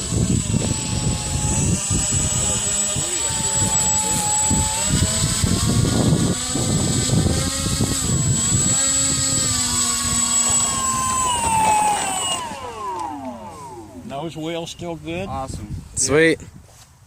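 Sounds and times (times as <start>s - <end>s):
model plane motor whining: 0.0s - 14.8s.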